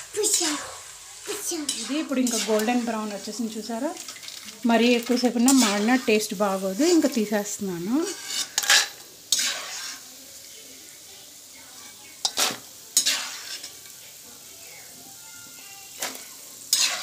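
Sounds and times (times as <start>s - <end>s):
peanuts sizzling in hot oil: 0.0s - 17.0s.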